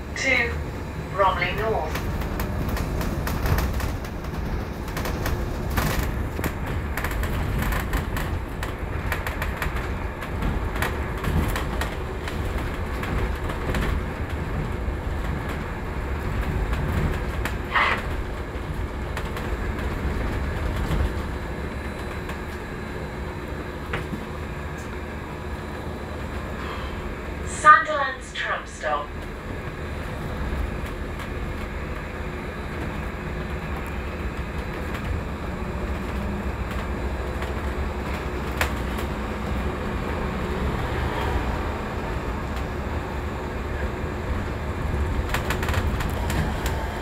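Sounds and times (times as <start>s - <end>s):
low rumble of tyres and road: 0.0s - 47.0s
clicks and rattles from bus body: 1.8s - 27.0s, 29.2s - 47.0s.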